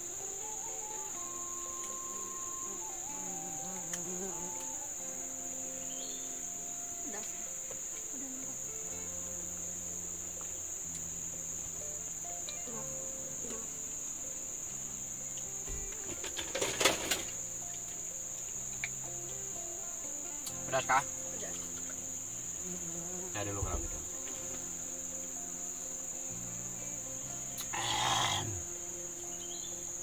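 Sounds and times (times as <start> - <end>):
forest insects droning: 0.0 - 30.0.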